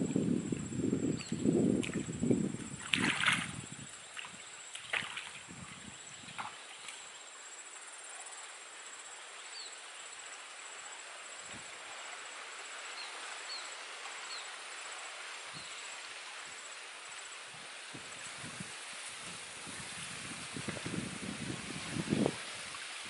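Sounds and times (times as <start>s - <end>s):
insect trill: 0.0s - 23.0s
soft hiss: 0.0s - 23.0s.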